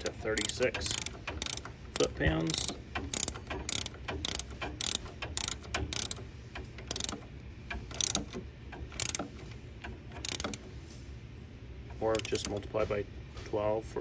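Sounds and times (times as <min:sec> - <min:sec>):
ratchet wrench clicking: 0:00.0 - 0:10.7, 0:12.0 - 0:12.7.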